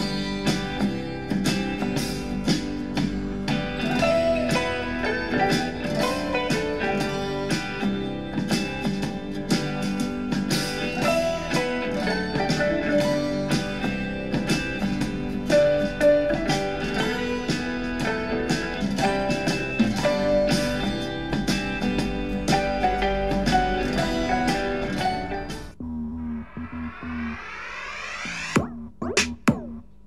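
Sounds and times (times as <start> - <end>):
country folk guitar music: 0.0 - 25.8.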